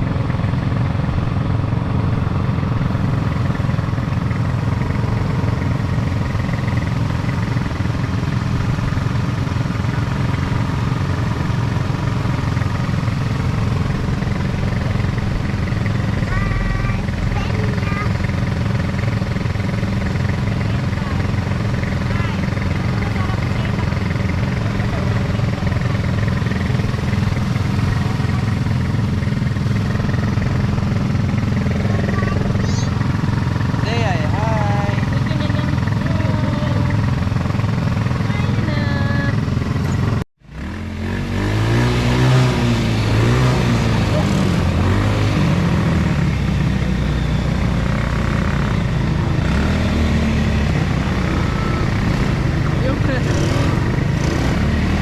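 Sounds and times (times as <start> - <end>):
vehicle engine droning: 0.0 - 55.0.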